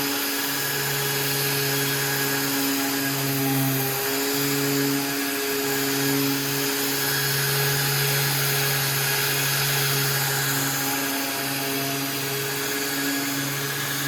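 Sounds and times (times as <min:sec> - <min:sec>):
electric power tool motor humming: 0:00.0 - 0:14.0.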